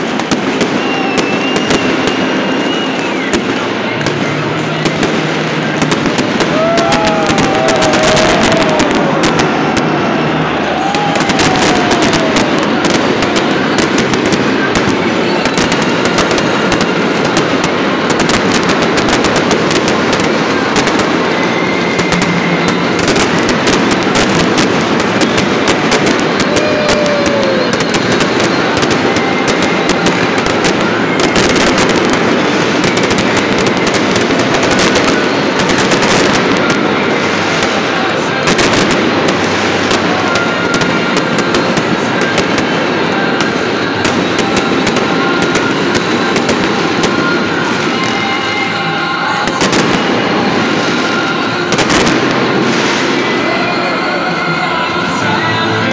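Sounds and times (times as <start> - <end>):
falling firework whistles: 0.0 - 54.8
fireworks crackling and banging: 0.0 - 55.9.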